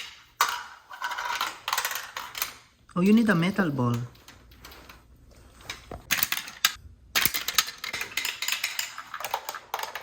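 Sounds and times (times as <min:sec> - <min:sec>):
plastic marble run pieces clattering: 0:00.0 - 0:05.0, 0:05.7 - 0:10.0.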